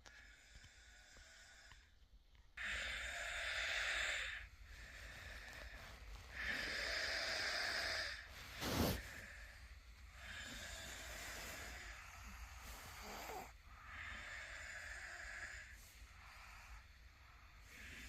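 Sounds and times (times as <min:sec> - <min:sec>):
person snoring: 0:02.6 - 0:18.0.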